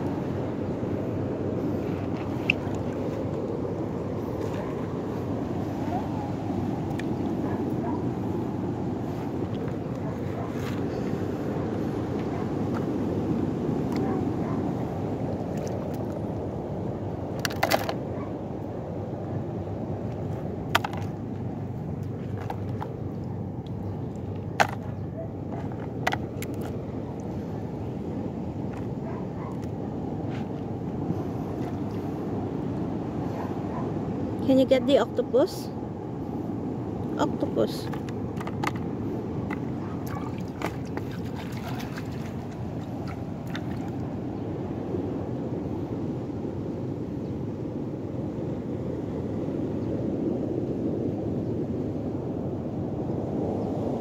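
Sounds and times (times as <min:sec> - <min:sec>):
surf at shoreline: 0:00.0 - 0:54.0
wind: 0:00.0 - 0:54.0.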